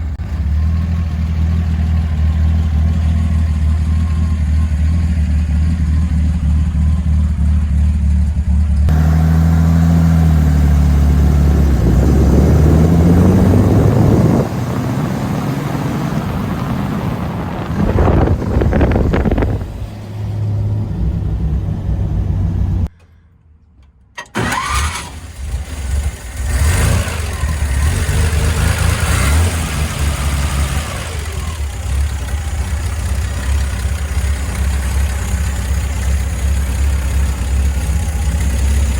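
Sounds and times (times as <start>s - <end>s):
pickup engine idling and revving: 0.0s - 22.9s, 24.3s - 38.9s.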